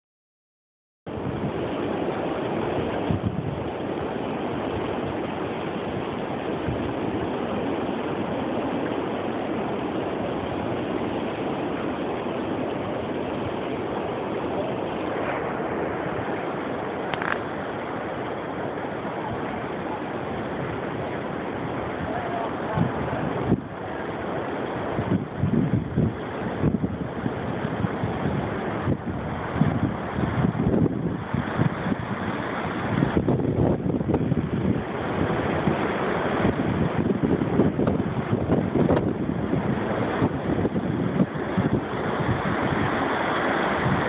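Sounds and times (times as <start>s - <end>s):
strong wind through tree branches: 1.1s - 44.0s
wind buffeting microphone: 1.1s - 44.0s.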